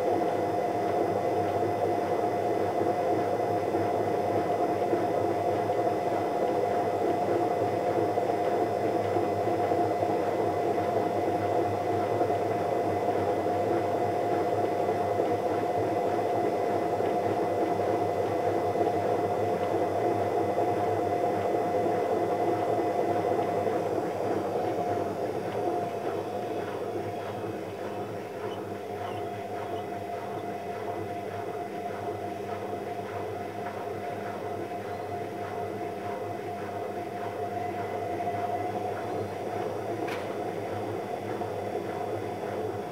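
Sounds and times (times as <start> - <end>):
steady machine hum: 0.0 - 42.9.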